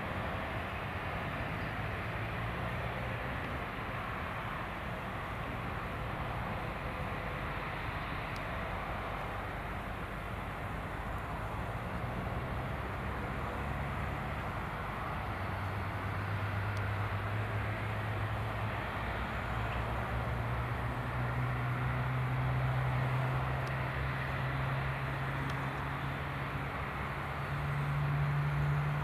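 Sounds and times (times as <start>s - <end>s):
jet airliner noise with low drone: 0.0s - 29.0s.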